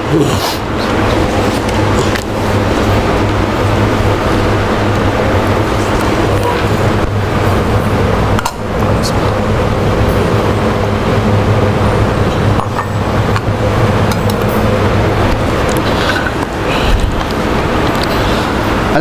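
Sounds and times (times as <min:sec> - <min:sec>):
low hum: 0:00.0 - 0:19.0
steady rumbling noise: 0:00.0 - 0:19.0.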